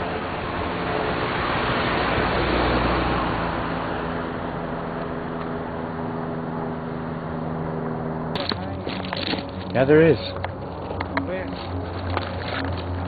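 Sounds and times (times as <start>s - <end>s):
road noise: 0.0s - 13.0s
vehicle engine running: 0.0s - 13.0s.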